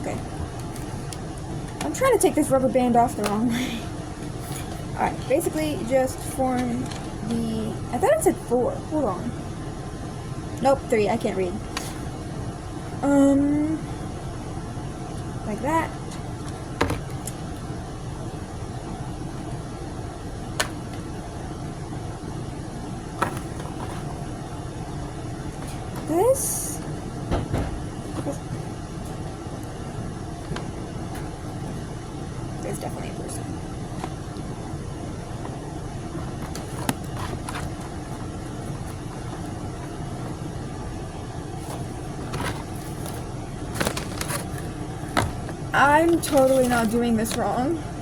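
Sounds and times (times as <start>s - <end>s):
low background rumble: 0.0s - 48.0s.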